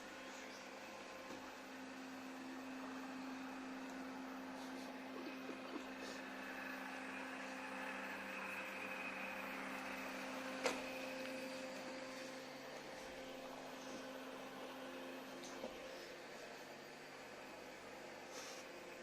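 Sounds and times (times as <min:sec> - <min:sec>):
robot vacuum motor hum: 0:00.0 - 0:19.0.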